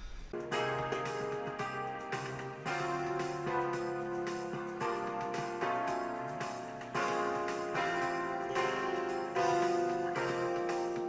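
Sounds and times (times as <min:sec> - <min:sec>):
instrumental background music: 0:00.4 - 0:11.0.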